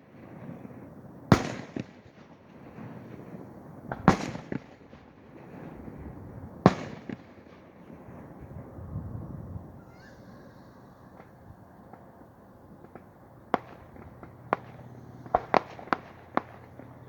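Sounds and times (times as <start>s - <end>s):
fireworks booming: 0.0s - 8.8s, 9.6s - 17.0s
fireworks crack: 0.0s - 8.8s, 9.6s - 17.0s.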